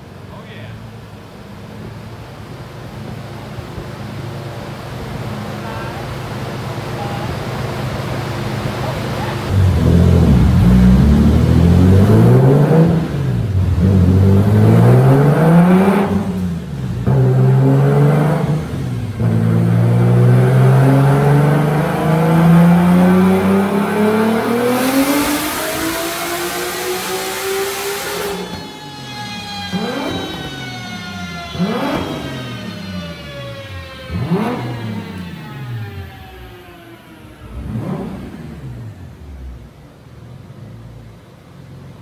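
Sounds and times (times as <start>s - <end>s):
car engine revving on dyno: 1.0s - 42.0s.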